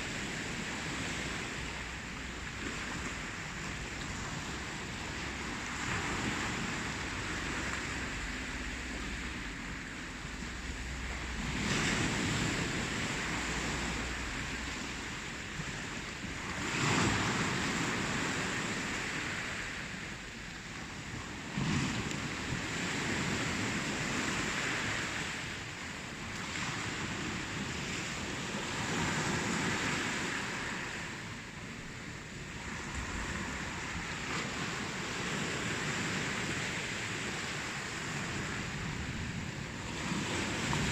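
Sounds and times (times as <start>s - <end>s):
ocean surf waves breaking: 0.0s - 40.9s.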